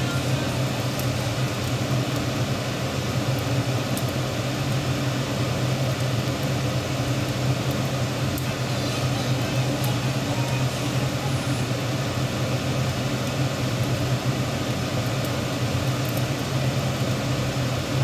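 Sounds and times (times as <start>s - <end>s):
machine hum and whir: 0.0s - 18.0s.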